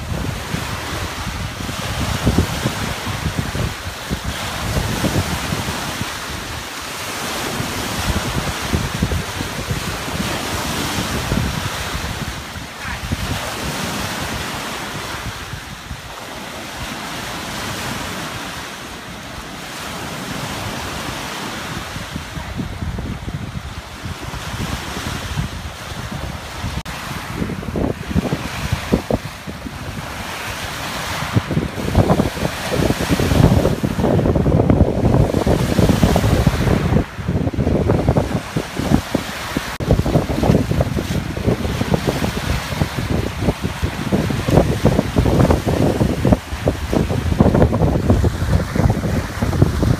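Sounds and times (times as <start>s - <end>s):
waves washing against rocky shore: 0.0s - 49.9s
wind buffeting microphone: 0.0s - 49.9s.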